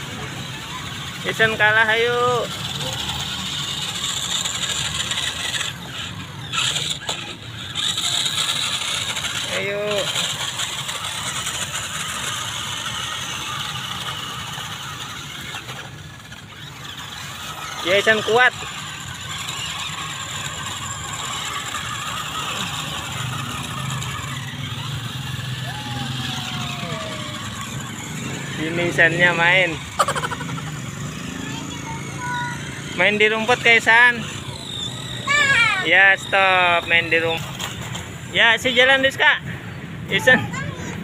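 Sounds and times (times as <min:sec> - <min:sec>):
toy electric motors whirring: 0:00.0 - 0:41.0.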